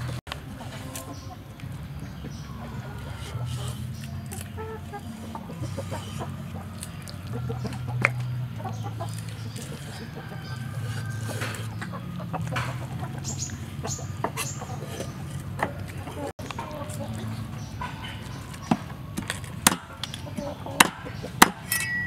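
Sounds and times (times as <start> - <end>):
chickens clucking: 0.0 - 21.7.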